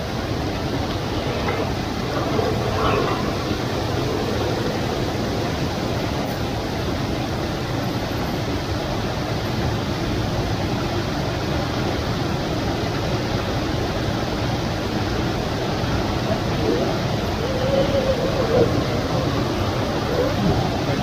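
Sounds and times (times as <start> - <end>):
small stream rushing: 0.0 - 21.0.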